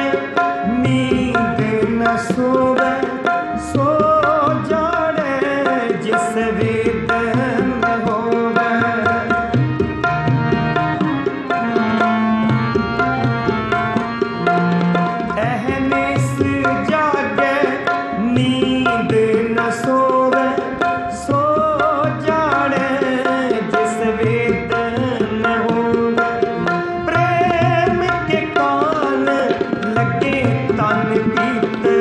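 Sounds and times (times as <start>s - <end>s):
harmonium sustained notes: 0.0s - 32.0s
tabla strokes: 0.0s - 32.0s.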